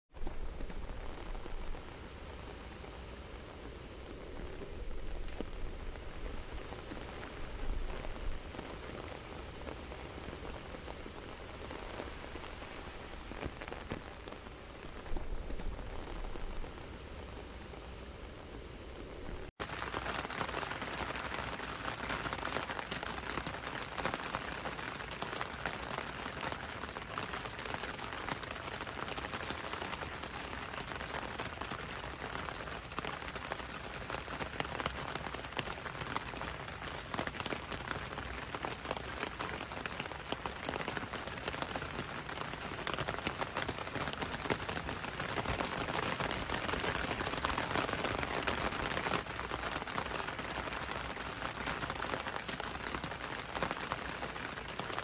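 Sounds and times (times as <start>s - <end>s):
rain falling on leaves: 0.1s - 55.0s.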